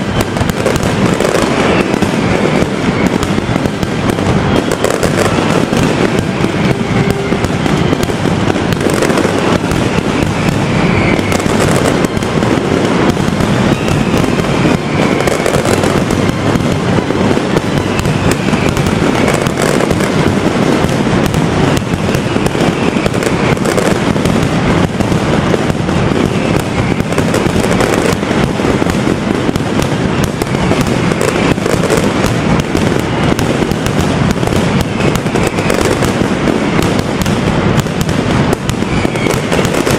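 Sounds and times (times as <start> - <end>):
firecracker bangs: 0.0 - 39.9.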